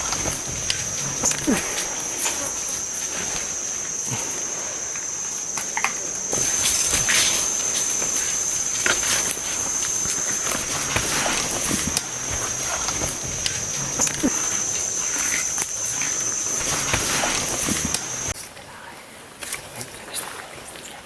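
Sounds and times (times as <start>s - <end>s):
bamboo stems snapping and chewing: 0.0s - 18.4s
high buzz of insects: 0.0s - 18.4s.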